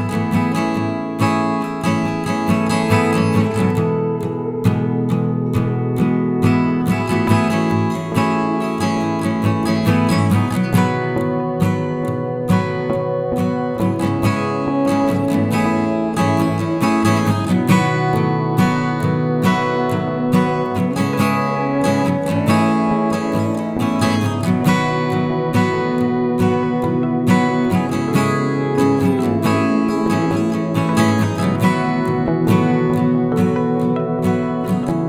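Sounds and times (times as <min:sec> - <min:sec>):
acoustic guitar music: 0:00.0 - 0:35.0.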